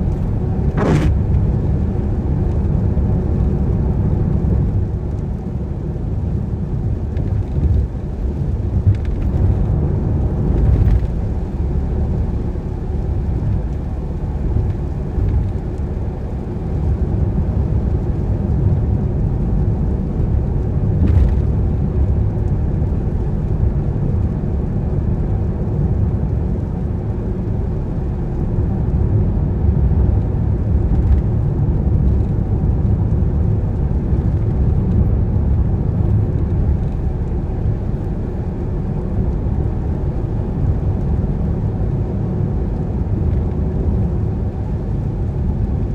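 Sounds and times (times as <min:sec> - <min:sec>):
car engine and tyres rumbling: 0:00.0 - 0:45.9
rain: 0:00.0 - 0:45.9.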